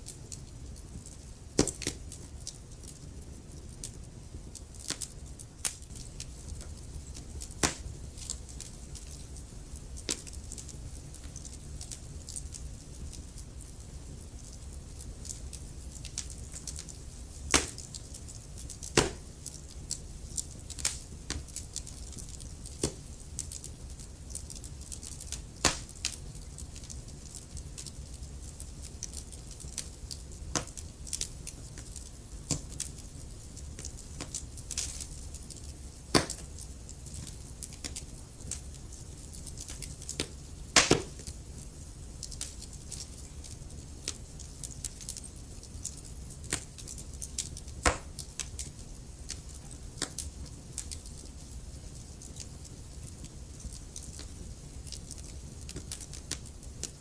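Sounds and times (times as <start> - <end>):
low rumble of flame: 0.0 - 57.0
sharp pops from fire: 0.0 - 57.0
wood fire crackling: 0.0 - 57.0.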